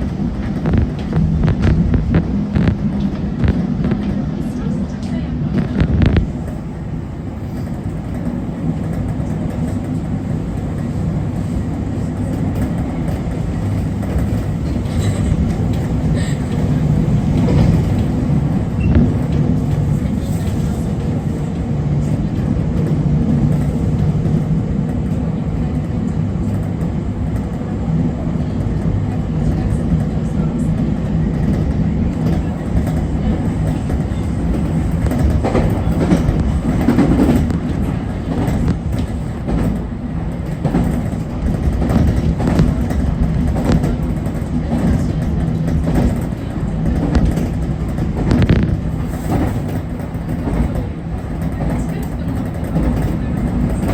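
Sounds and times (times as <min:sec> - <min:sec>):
rail-joint clacks: 0:00.0 - 0:06.6, 0:07.6 - 0:25.2, 0:28.4 - 0:53.9
train running rumble: 0:00.0 - 0:53.9.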